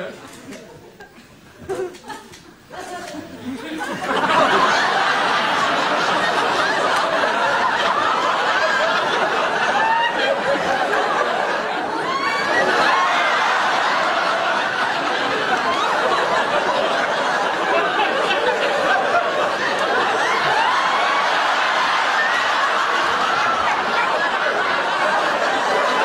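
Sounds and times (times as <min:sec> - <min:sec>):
audience laughing: 0:00.0 - 0:26.0.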